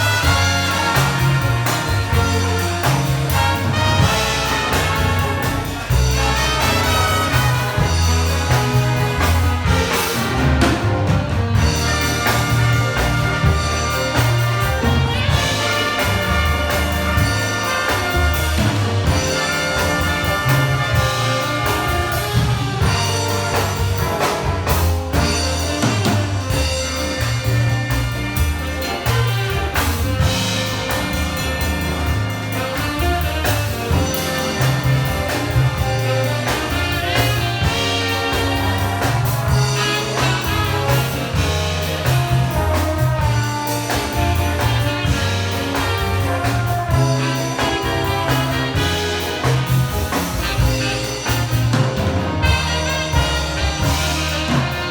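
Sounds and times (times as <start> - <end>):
brass section playing: 0.0 - 54.9
drum kit: 0.0 - 54.9.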